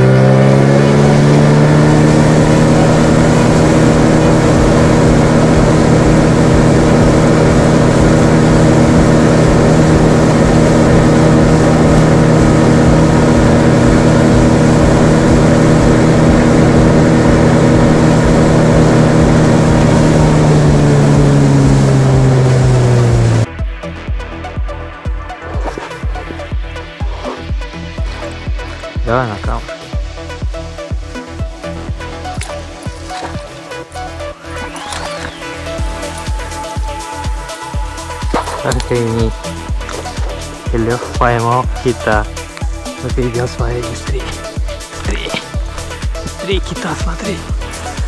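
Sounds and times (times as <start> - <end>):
water rushing: 0.0 - 23.5, 32.3 - 48.0
motorboat engine running: 0.0 - 48.0.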